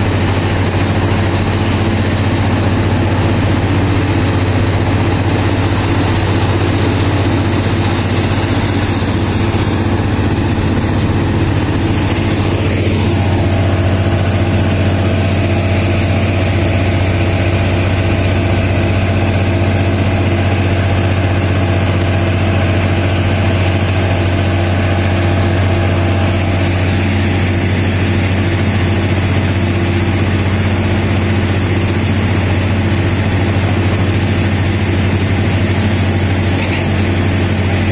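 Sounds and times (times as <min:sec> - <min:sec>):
falling whine: 0:00.0 - 0:37.9
heavy machinery engine drone: 0:00.0 - 0:37.9.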